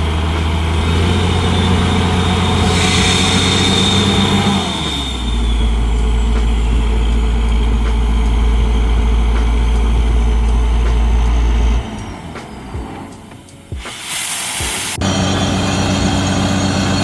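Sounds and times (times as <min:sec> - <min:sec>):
heavy engine humming: 0:00.0 - 0:17.0.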